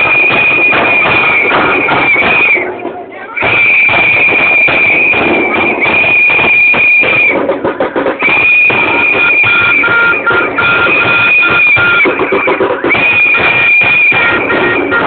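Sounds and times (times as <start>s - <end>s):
high whistle blasts: 0.0s - 7.4s, 8.2s - 15.0s
noisy crowd: 0.0s - 15.0s
scattered knocks: 0.0s - 15.0s.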